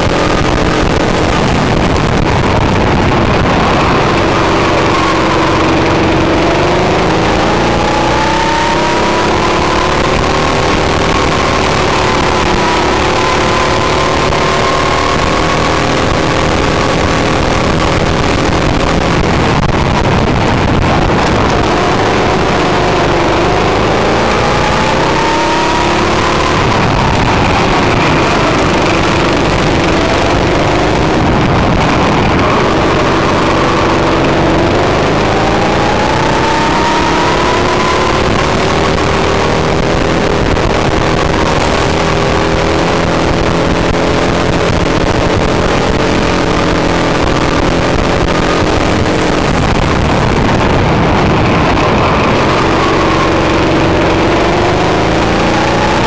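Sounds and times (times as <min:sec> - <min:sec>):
go-kart engine revving: 0:00.0 - 0:56.0
loud rushing noise: 0:00.0 - 0:56.0.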